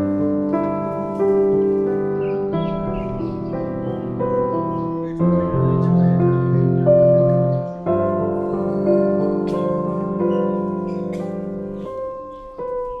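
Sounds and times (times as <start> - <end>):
calm piano chords: 0.0 - 13.0.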